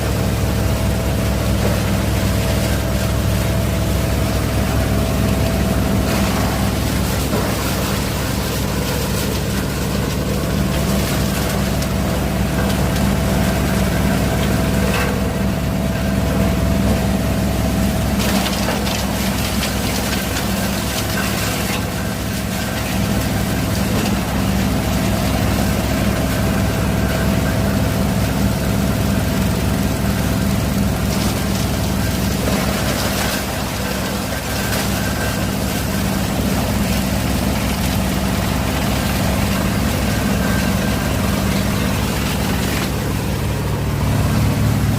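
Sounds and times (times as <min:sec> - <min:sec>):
conveyor clatter: 0:00.0 - 0:44.9
low motor hum: 0:00.0 - 0:44.9.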